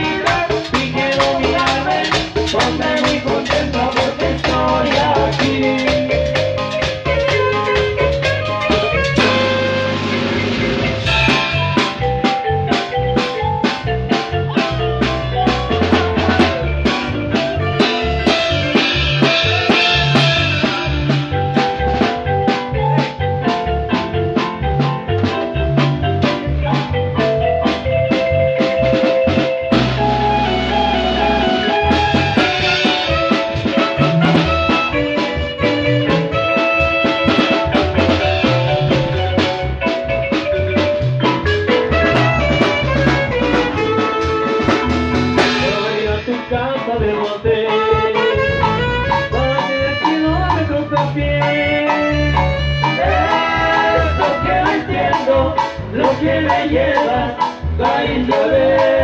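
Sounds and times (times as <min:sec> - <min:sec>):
drums and cymbals beat: 0:00.0 - 0:59.0
electric bass: 0:00.0 - 0:59.0
marimba: 0:00.0 - 0:59.0.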